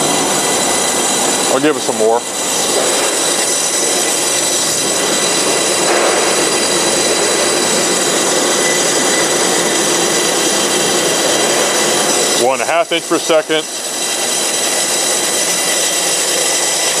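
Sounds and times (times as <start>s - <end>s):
bandsaw cutting foam: 0.0s - 17.0s.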